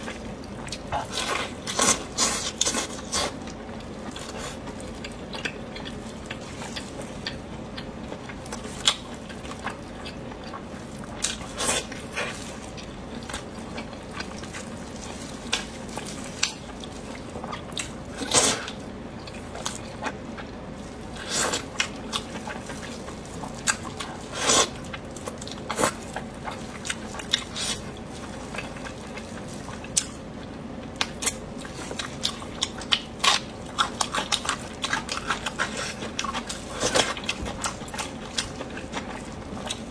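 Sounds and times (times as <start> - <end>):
chewing with wet mouth sounds: 0.0 - 39.9
steady low hum: 0.0 - 39.9.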